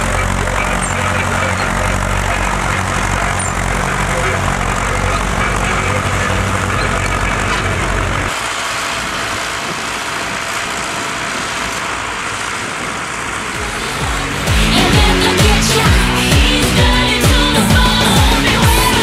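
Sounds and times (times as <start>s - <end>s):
outdoor noise: 0.0s - 19.0s
tractor engine humming: 0.0s - 19.0s.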